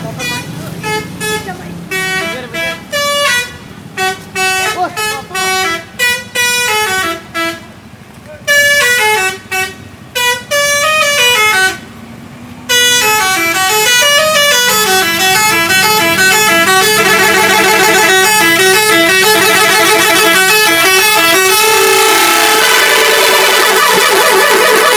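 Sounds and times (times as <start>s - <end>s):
multi-tone bus horn tune: 0.0s - 12.0s, 12.6s - 24.9s.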